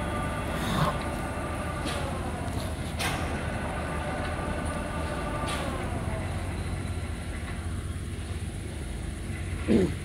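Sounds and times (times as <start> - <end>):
machine hum: 0.0 - 10.0
machine whine: 0.0 - 10.0.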